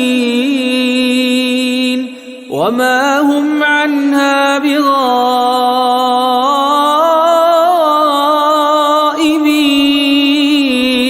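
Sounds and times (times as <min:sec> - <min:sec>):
person chanting recitation: 0:00.0 - 0:11.0.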